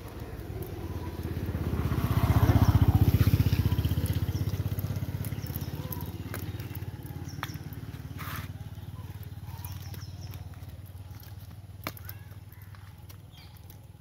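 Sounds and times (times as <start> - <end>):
small vehicle engine passing: 0.0 - 13.8.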